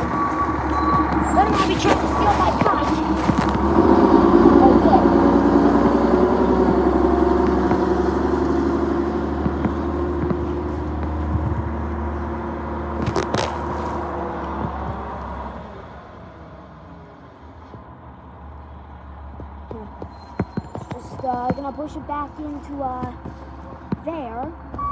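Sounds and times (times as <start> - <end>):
garbage truck engine running: 0.0 - 24.9.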